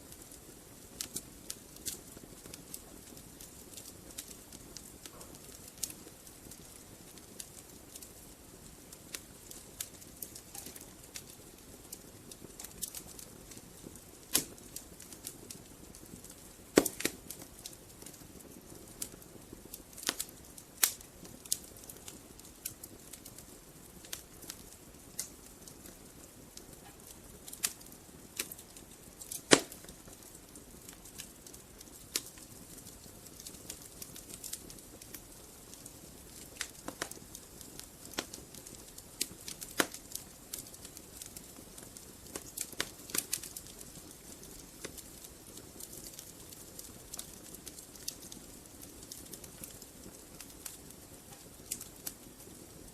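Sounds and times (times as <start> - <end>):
soft low fire hiss: 0.0 - 52.9
wood fire crackling and popping: 0.0 - 52.9.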